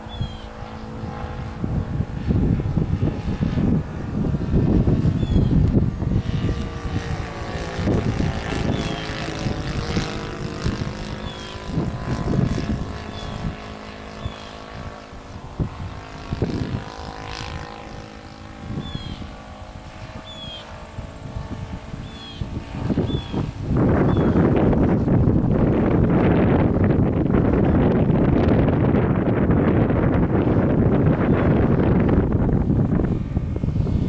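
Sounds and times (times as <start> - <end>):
model airplane engine running: 0.0 - 34.0
wind rumbling on microphone: 0.0 - 34.0.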